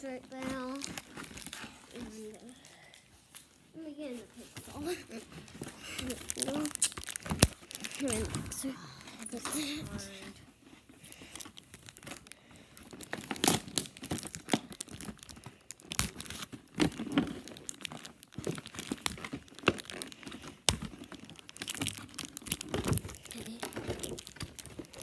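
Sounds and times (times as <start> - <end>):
plastic packaging crinkling: 0.0 - 3.6, 4.4 - 25.0.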